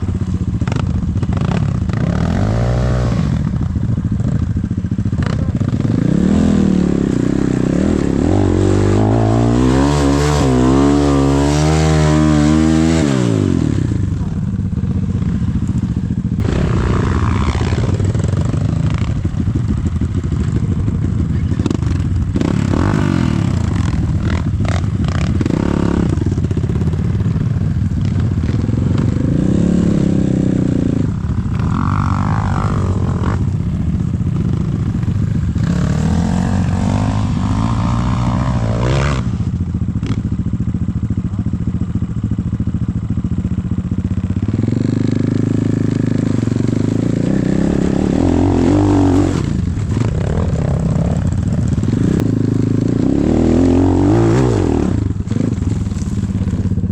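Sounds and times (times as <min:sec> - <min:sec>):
dirt bike engine revving: 0:00.0 - 0:40.4, 0:44.4 - 0:56.9.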